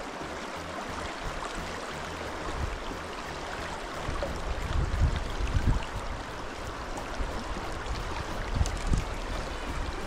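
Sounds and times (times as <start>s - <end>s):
river rushing: 0.0s - 10.0s
low thumps on microphone: 0.8s - 6.3s, 7.0s - 10.0s.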